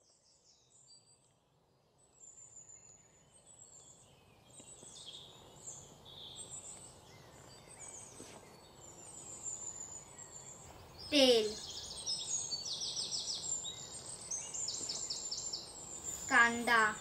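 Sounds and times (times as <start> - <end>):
faint birds chirping: 0.0 - 17.0
soft background hiss: 0.0 - 17.0.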